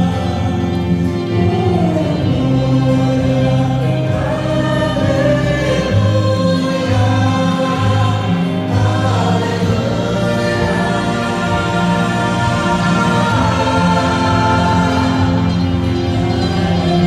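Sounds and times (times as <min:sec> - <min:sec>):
low bass notes: 0:00.0 - 0:17.0
vocal group singing in harmony: 0:00.0 - 0:17.0.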